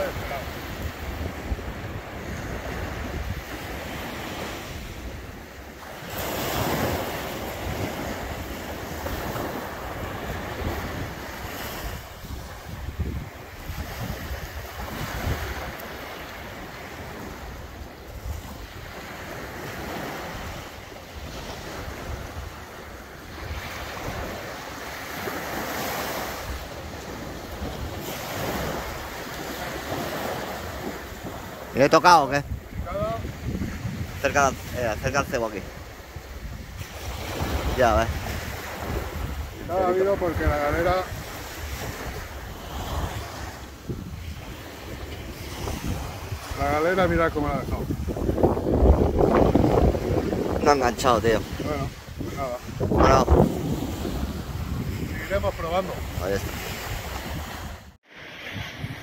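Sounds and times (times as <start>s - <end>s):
waves breaking on beach: 0.0s - 59.0s
wind on microphone: 0.0s - 59.0s.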